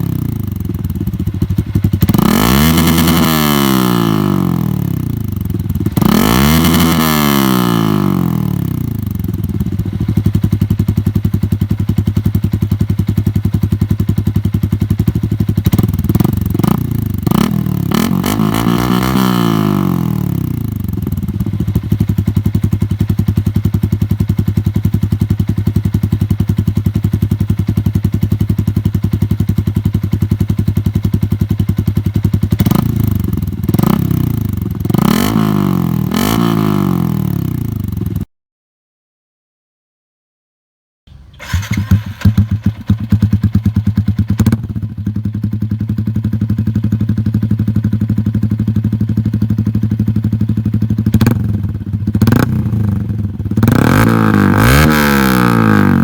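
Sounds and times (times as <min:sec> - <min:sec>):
motorcycle engine idling and revving: 0:00.0 - 0:38.3, 0:41.1 - 0:56.0.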